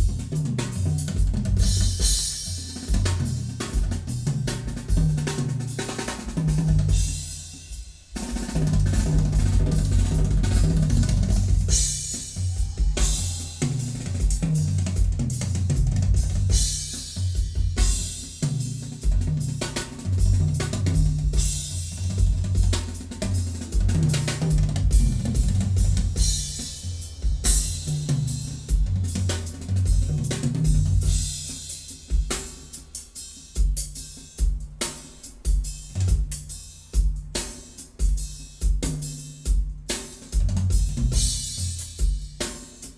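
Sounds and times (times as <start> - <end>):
drum kit playing: 0.0 - 42.9.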